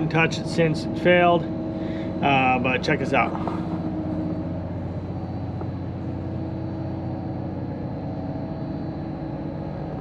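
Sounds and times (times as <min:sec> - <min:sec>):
refrigeration machinery hum: 0:00.0 - 0:10.0.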